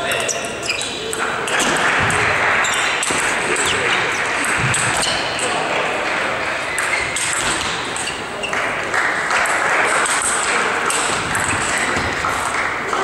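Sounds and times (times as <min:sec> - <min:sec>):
busy hall noise: 0:00.0 - 0:13.0.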